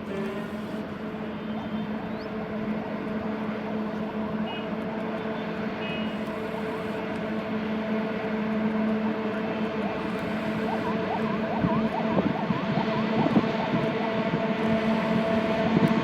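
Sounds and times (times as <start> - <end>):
constant rumble: 0.0 - 16.0
locomotive whine: 0.0 - 16.0.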